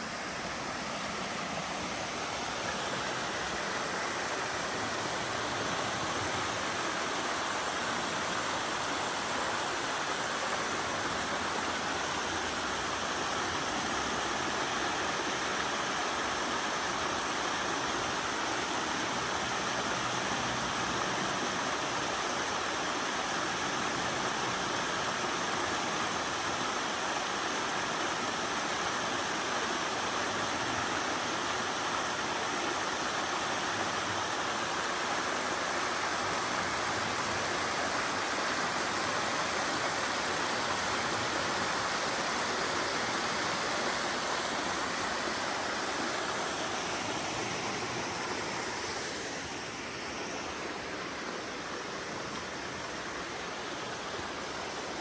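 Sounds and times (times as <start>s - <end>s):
waterfall rushing into creek: 0.0s - 55.0s.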